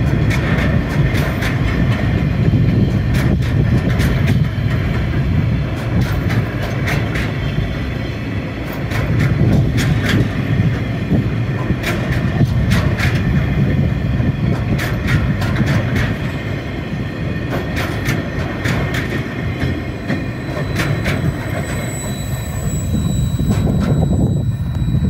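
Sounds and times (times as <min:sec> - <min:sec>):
train wheel clicks: 0:00.0 - 0:07.6, 0:08.6 - 0:13.8, 0:14.4 - 0:16.6, 0:17.4 - 0:25.0
train rolling rumble: 0:00.0 - 0:25.0.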